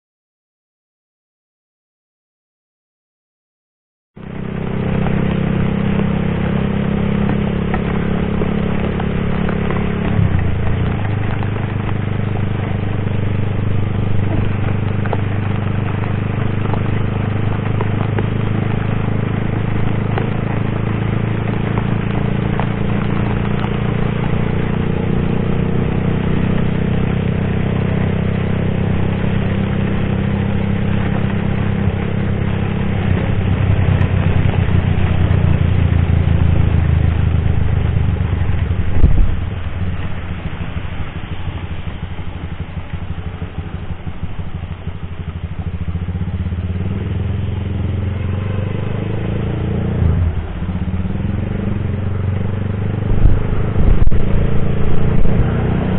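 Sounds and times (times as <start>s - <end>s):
motorcycle engine running: 4.2s - 55.9s
wind and wet road rushing: 4.2s - 55.9s.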